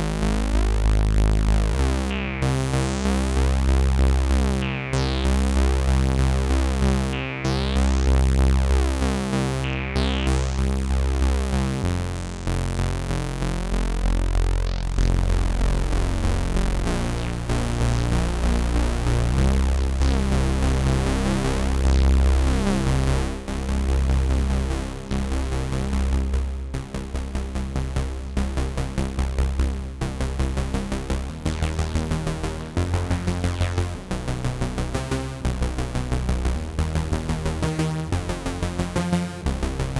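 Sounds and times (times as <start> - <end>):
analog synthesizer playing: 0.0 - 39.9.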